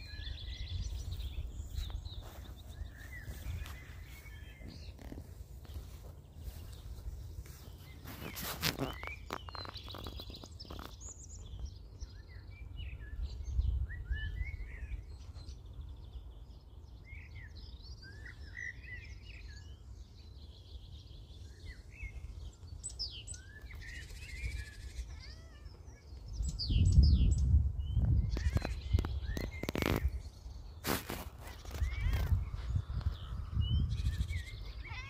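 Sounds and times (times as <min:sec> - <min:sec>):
birds singing and chirping: 0:00.0 - 0:35.0.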